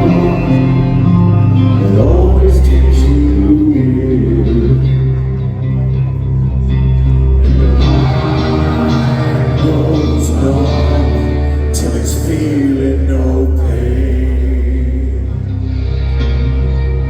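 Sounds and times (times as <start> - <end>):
live heavy metal band: 0.0 - 17.0.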